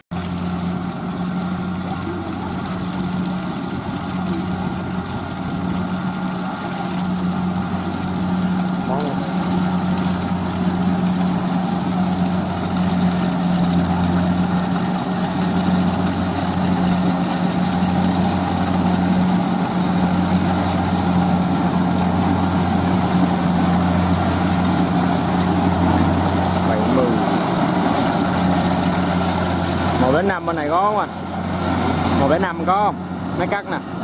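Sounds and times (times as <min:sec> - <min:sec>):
diesel engine humming: 0:00.1 - 0:34.0
machinery rattling and whirring: 0:00.1 - 0:34.0.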